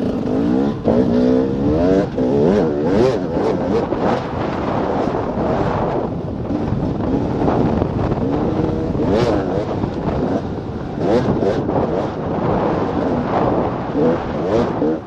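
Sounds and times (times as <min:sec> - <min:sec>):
dirt bike engine revving: 0:00.0 - 0:15.0
wind on microphone: 0:00.0 - 0:15.0.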